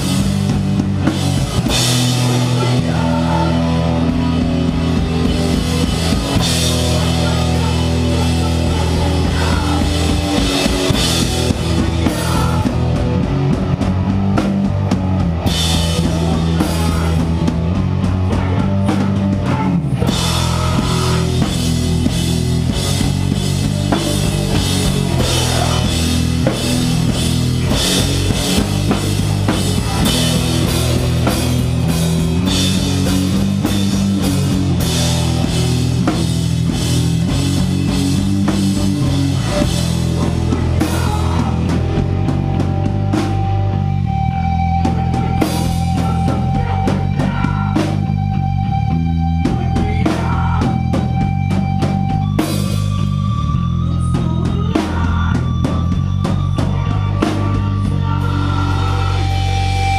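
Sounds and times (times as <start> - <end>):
hardcore band playing live: 0.0 - 59.9.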